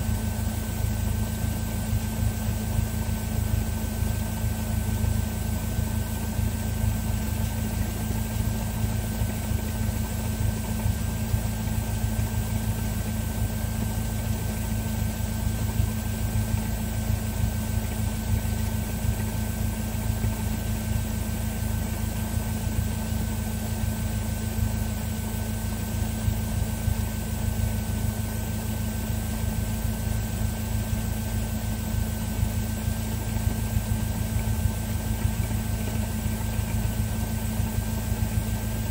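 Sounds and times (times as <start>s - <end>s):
light aircraft engine running: 0.0s - 38.9s.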